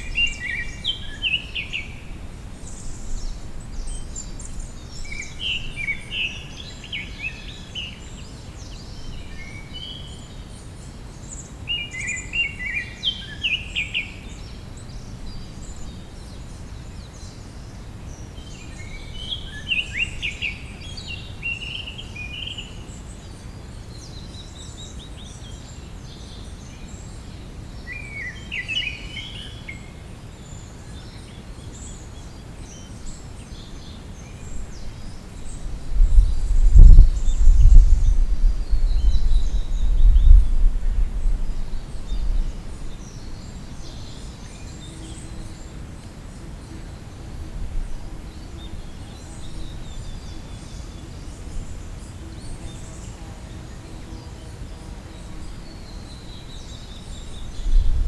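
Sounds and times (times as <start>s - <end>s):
songbird chirping: 0.0s - 58.0s.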